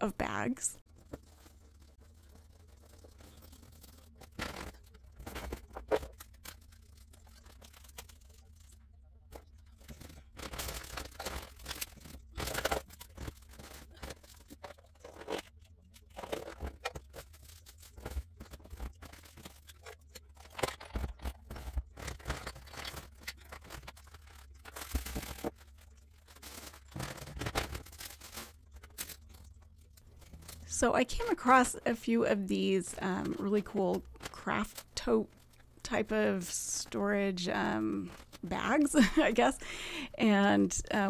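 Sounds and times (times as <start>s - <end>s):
plastic bags rustling and crinkling: 0.8s - 8.8s, 9.7s - 41.0s.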